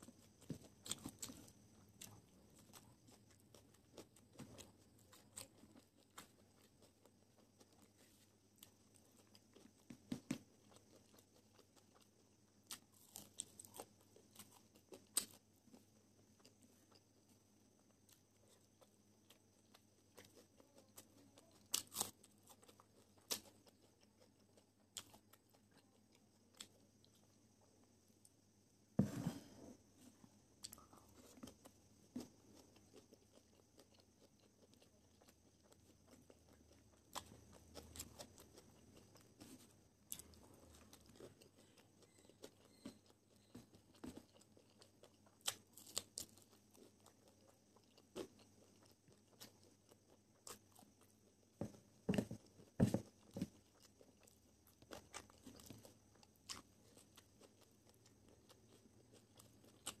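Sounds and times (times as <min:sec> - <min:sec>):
person chewing and crunching food: 0:00.0 - 0:28.4, 0:29.0 - 1:00.0.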